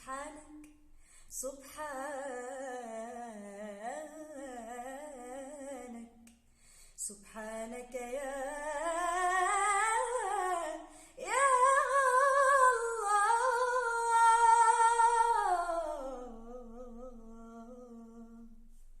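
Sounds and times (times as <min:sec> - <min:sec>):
girl singing with vibrato: 0:00.0 - 0:00.7, 0:01.4 - 0:06.2, 0:07.0 - 0:18.6.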